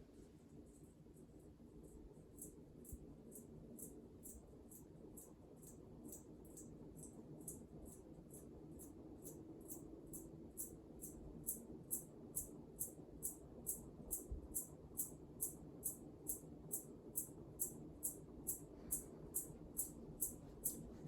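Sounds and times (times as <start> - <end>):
ceiling fan humming: 0.0 - 21.0.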